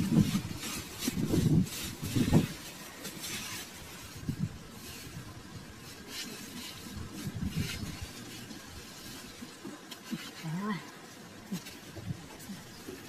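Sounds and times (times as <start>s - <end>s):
hands scraping sandy soil: 0.0s - 13.0s.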